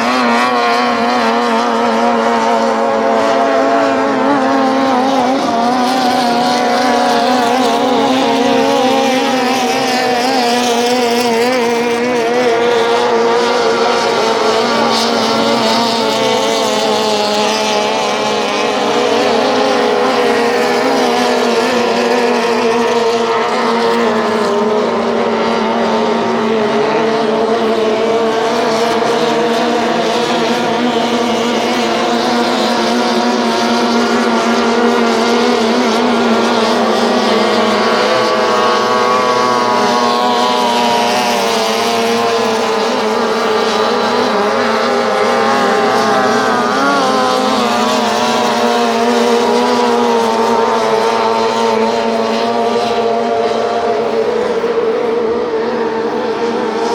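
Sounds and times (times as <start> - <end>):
outboard motors at high revs: 0.0 - 56.9.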